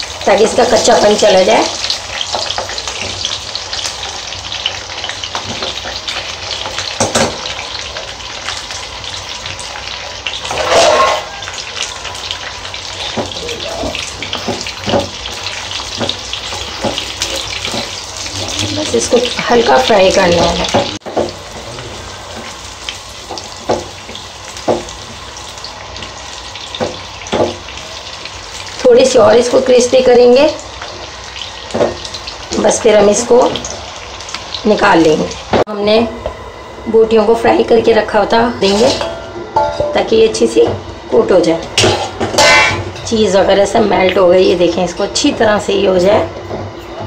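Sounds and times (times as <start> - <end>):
vegetables sizzling in hot oil: 0.0 - 47.0.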